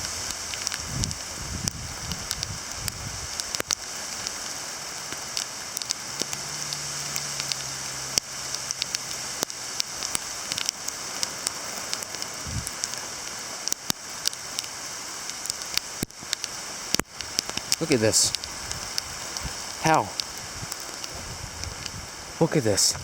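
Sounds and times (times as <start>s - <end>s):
hail pellets falling and ticking: 0.0s - 23.0s.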